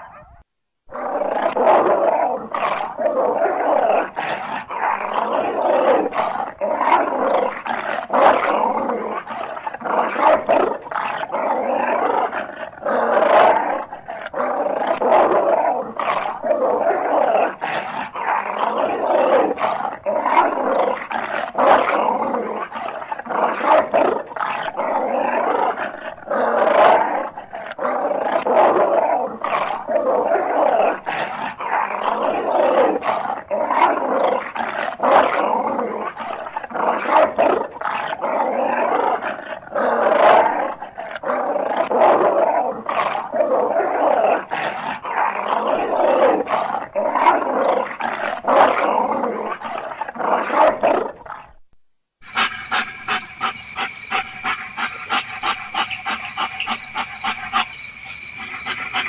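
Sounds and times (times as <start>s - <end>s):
dogs growling and barking: 0.0s - 51.6s, 52.2s - 59.0s.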